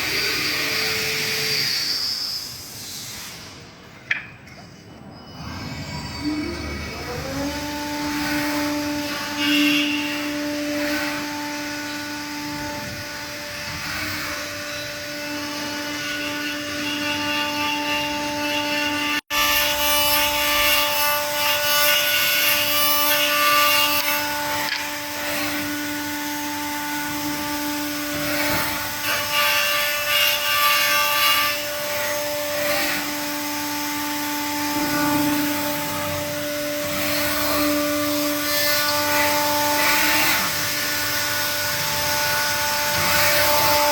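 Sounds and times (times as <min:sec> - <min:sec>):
router spindle whine: 0:04.8 - 0:43.9
cutter rasping wood: 0:05.7 - 0:43.9.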